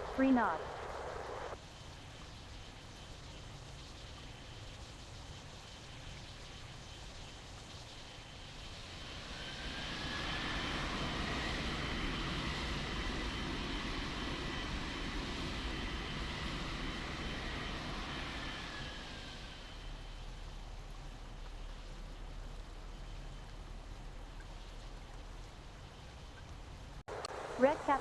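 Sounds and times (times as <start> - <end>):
airliner engines passing by: 0.0 - 28.0.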